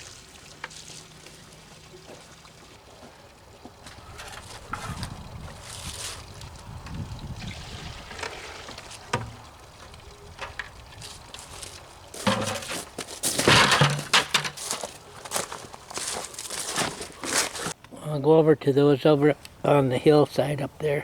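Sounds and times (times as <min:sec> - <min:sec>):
footsteps crunching in wet snow: 0:00.0 - 0:06.8, 0:07.6 - 0:17.8.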